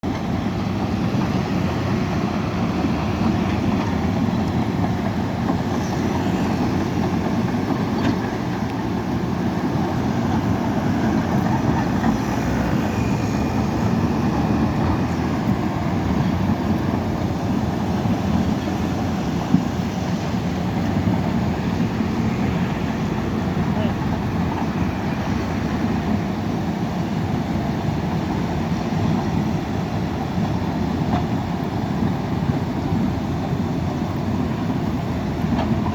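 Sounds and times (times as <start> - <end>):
heavy diesel machinery running: 0.0 - 35.9.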